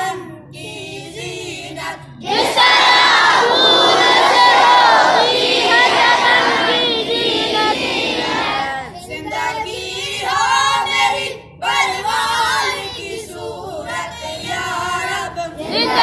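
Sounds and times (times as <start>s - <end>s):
boys singing a prayer together: 0.0s - 16.0s.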